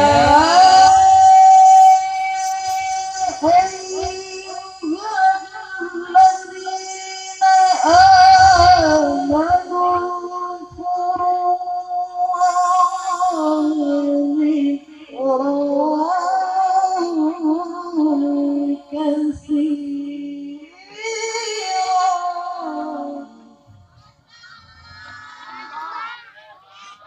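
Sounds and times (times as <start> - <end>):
man reciting melodically: 0.0 - 24.0.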